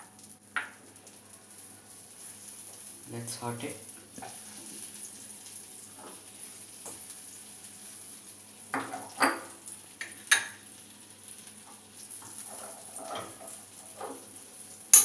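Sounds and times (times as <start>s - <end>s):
butter sizzling in a pan: 0.0s - 15.0s.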